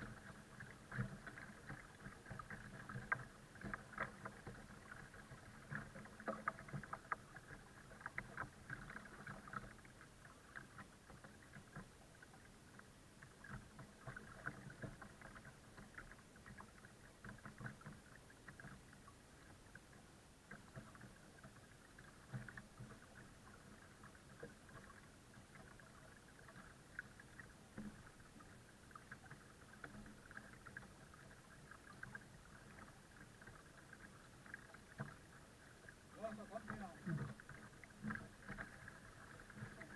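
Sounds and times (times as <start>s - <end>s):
water lapping against kayak hull: 0.0s - 39.9s.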